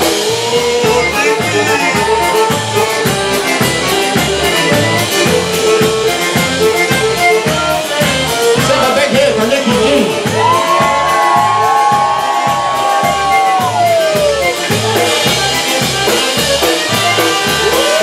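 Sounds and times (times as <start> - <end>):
accordion melody: 0.0 - 18.0
bass and drum beat: 0.0 - 18.0.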